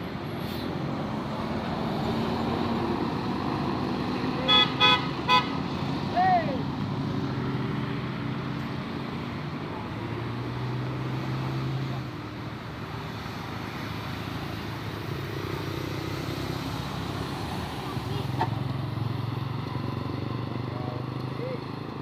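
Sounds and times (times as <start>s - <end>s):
tyre and traffic noise: 0.0s - 22.0s
vehicle engine hum: 0.0s - 22.0s.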